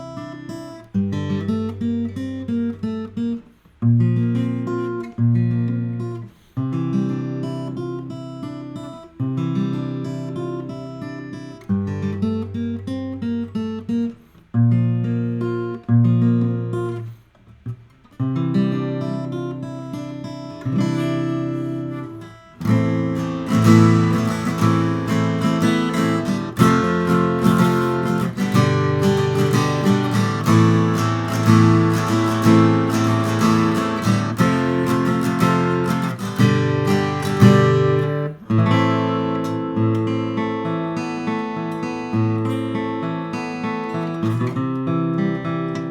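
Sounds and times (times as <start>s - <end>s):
acoustic guitar strumming: 0.0s - 45.9s.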